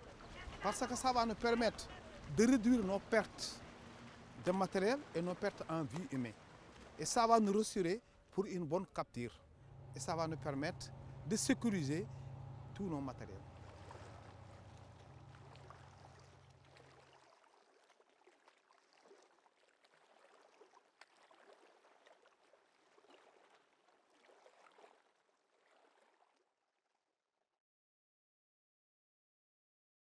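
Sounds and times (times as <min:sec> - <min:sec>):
outboard motor hum: 0:00.0 - 0:26.3
water lapping: 0:00.0 - 0:26.6.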